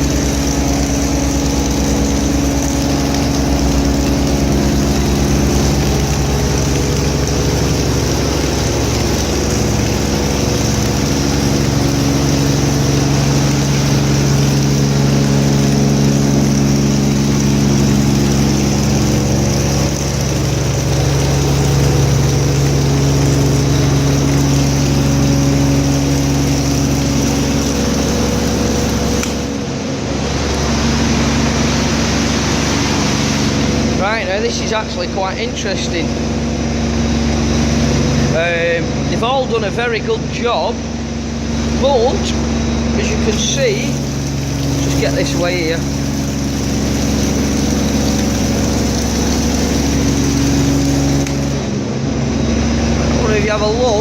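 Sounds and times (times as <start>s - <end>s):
high-pressure water jet hissing: 0.0s - 29.7s, 30.5s - 39.2s, 41.1s - 51.9s
pressure washer engine droning: 0.0s - 54.0s.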